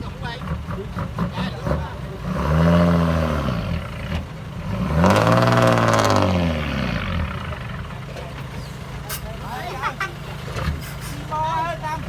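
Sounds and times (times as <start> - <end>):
bulldozer diesel engine revving: 0.0 - 12.0.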